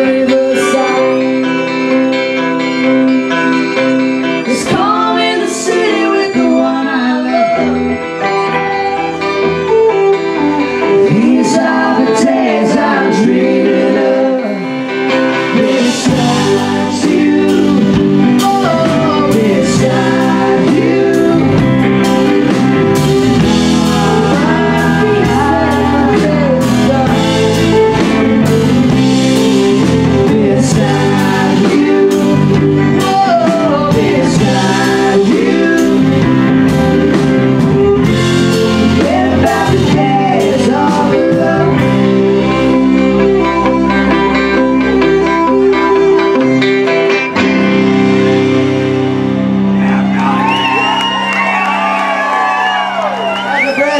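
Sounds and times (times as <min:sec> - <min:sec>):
fiddle melody: 0:00.0 - 0:50.8
live band playing: 0:00.0 - 0:53.9.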